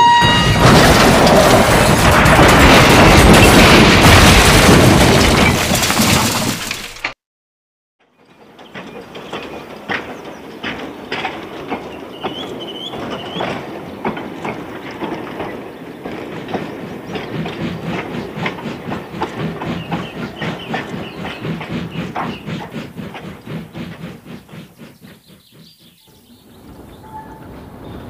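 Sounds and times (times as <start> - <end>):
train wheels clicking over rail joints: 0.2 - 7.2, 8.0 - 28.0.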